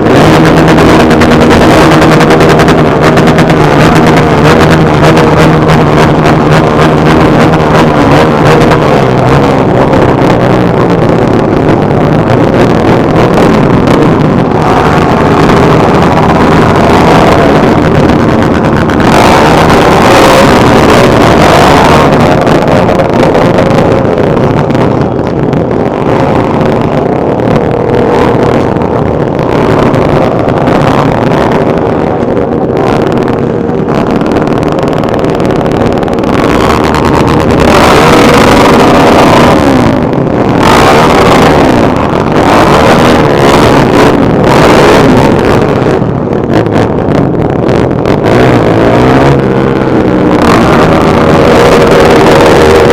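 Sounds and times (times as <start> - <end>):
motorcycle engines revving: 0.0 - 52.9.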